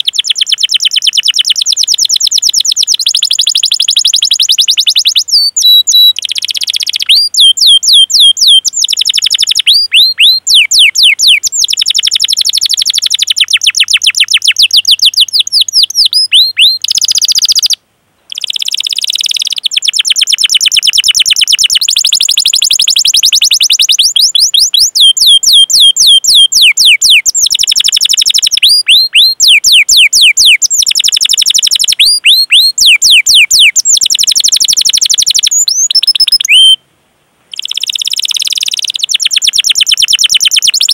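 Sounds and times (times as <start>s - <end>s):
canary singing trills: 0.0s - 36.8s, 37.5s - 40.9s.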